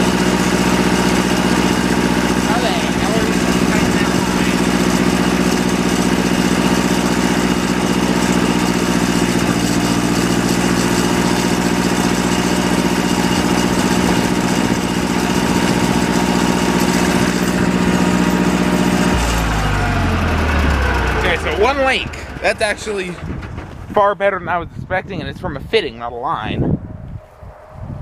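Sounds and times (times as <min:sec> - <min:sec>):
tractor engine running: 0:00.0 - 0:24.7.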